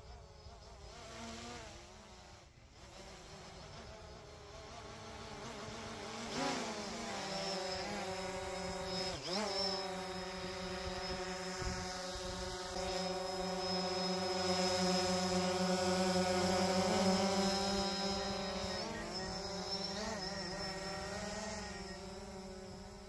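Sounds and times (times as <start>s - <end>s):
drone propellers buzzing: 0.0s - 23.0s.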